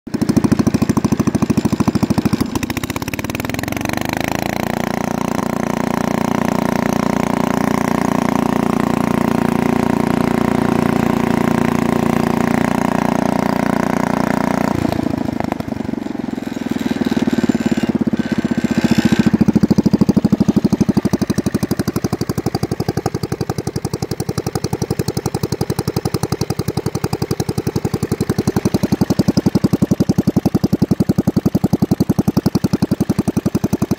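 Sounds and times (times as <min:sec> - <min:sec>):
small tractor engine running: 0:00.1 - 0:33.9.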